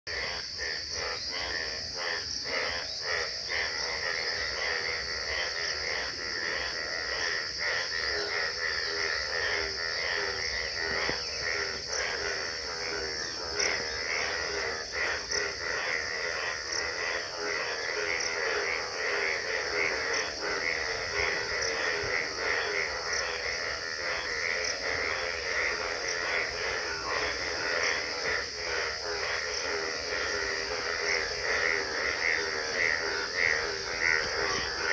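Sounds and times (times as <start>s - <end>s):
frogs calling in chorus: 0.1s - 34.9s.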